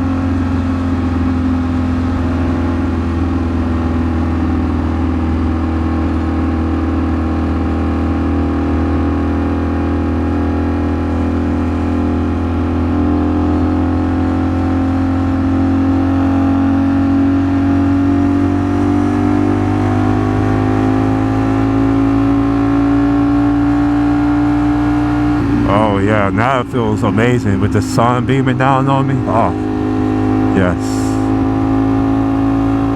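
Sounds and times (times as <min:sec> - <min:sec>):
motorcycle engine cruising: 0:00.0 - 0:26.6, 0:28.4 - 0:30.6, 0:31.2 - 0:32.9.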